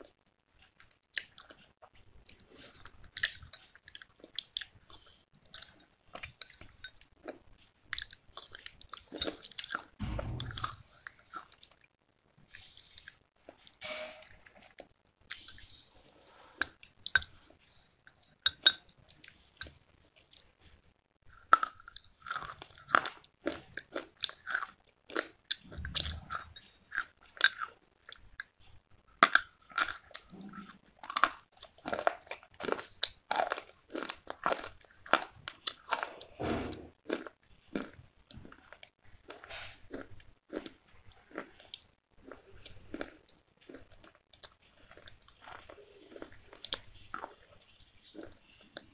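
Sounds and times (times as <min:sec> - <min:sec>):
crunching and chewing: 0:00.0 - 0:13.8, 0:14.4 - 0:48.9.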